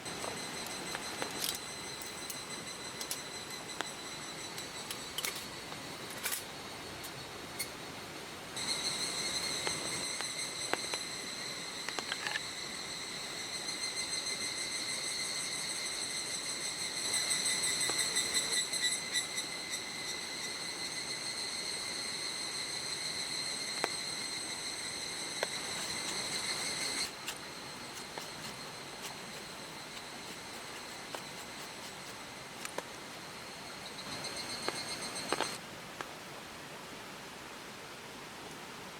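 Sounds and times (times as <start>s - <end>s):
cricket trilling: 0.0s - 35.6s
steady hiss: 0.0s - 38.9s.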